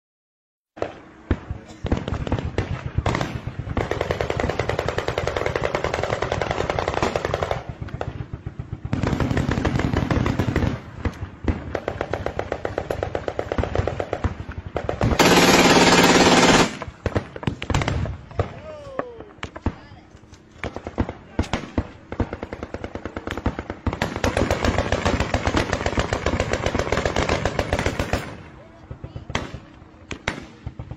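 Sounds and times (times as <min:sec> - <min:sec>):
automatic gunfire: 0:00.8 - 0:18.1, 0:20.6 - 0:28.5.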